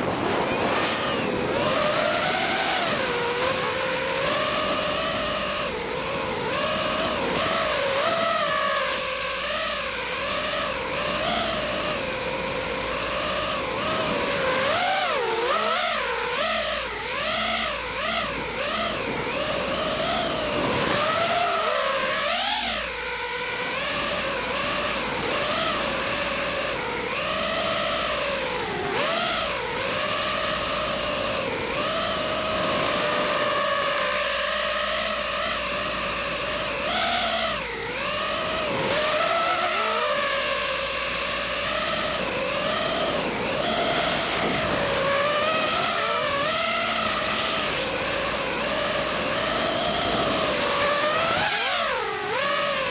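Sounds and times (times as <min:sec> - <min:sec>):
quadcopter motors whining: 0:00.0 - 0:52.9.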